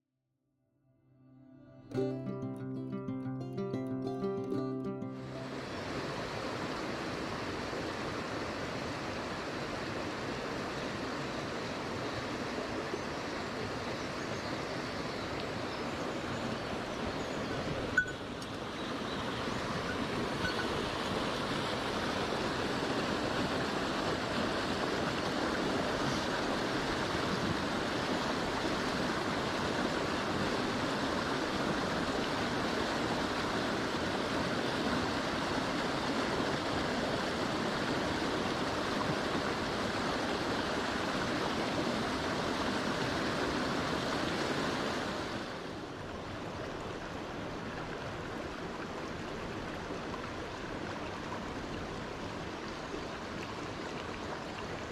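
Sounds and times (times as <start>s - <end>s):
stream water rushing: 1.9s - 54.9s.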